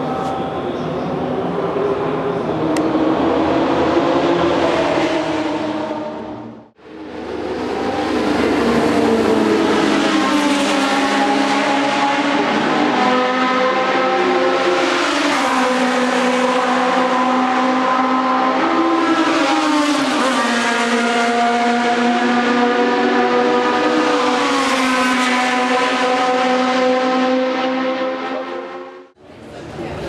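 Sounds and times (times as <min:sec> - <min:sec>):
race car engine revving: 0:01.4 - 0:29.2.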